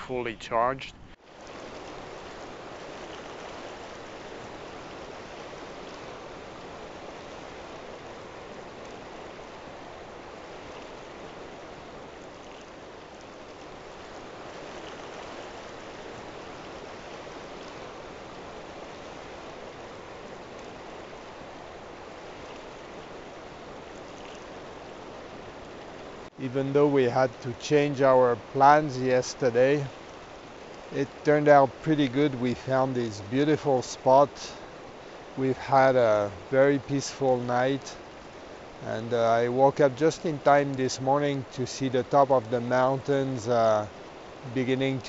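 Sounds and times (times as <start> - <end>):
river rushing over rocks: 1.3 - 45.0.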